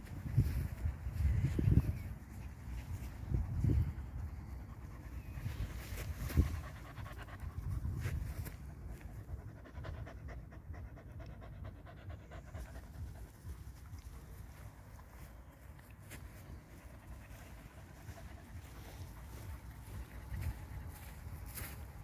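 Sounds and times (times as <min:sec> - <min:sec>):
dog panting: 0:00.1 - 0:21.8.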